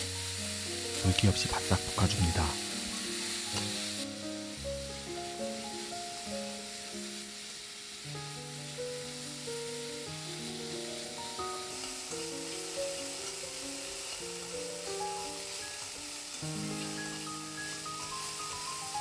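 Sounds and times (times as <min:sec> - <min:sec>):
meat sizzling in a pan: 0:00.0 - 0:19.0
soft background music: 0:00.0 - 0:19.0.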